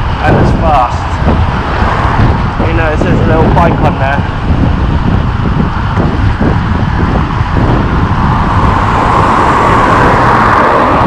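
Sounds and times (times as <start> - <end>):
motor vehicle noise: 0.0 - 11.0
road noise: 0.0 - 11.0
wind on microphone: 0.0 - 11.0.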